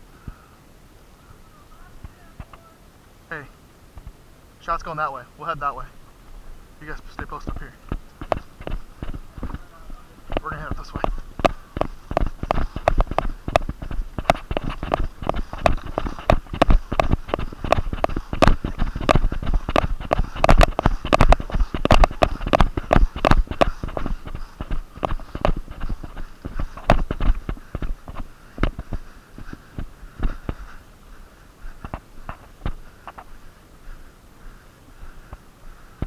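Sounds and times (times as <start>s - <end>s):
quick footsteps: 6.0s - 36.0s.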